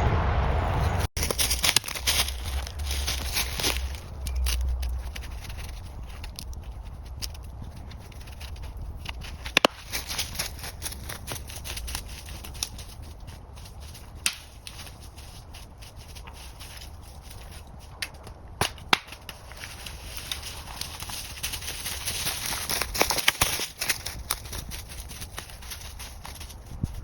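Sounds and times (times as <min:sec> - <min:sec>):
sharp wooden cracks and knocks: 0:01.2 - 0:13.0, 0:13.8 - 0:15.0, 0:16.0 - 0:26.5
crackling and rustling of forest litter: 0:01.2 - 0:27.0.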